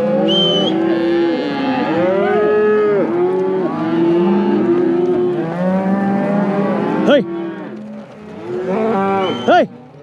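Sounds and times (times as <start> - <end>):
cattle mooing: 0.0 - 10.0.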